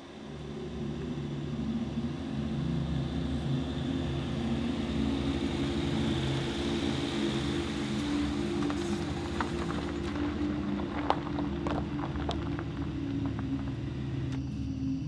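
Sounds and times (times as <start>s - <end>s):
car engine humming: 0.0s - 14.4s.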